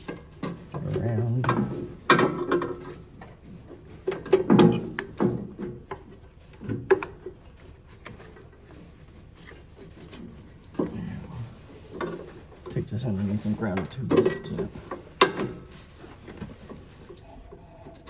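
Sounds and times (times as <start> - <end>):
heavy cable clunking and rubbing: 0.0 - 18.0.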